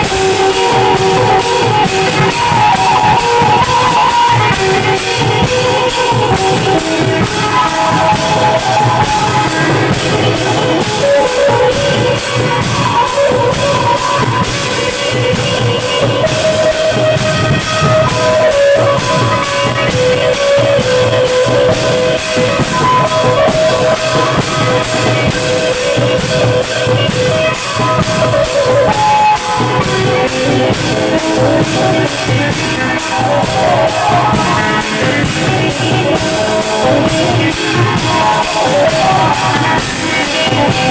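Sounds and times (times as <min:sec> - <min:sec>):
drum and cymbal beat: 0:00.0 - 0:40.9.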